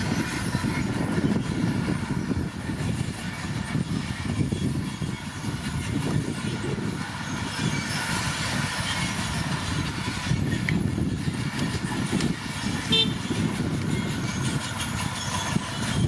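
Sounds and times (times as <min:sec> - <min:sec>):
bulldozer diesel engine running: 0:00.0 - 0:16.0
steel tracks clattering: 0:00.0 - 0:16.0.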